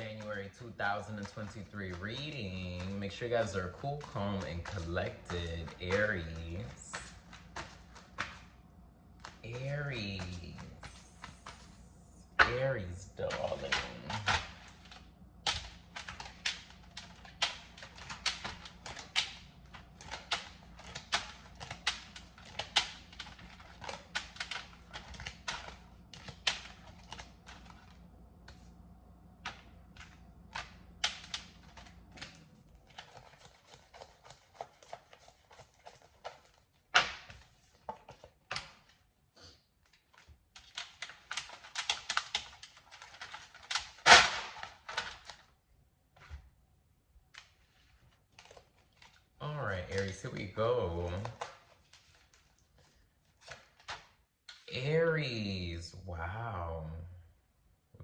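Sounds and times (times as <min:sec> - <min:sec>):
cards shuffling and slapping: 0:00.0 - 0:39.1, 0:39.8 - 0:46.5, 0:47.2 - 0:54.7
low steady hum: 0:00.0 - 0:58.0.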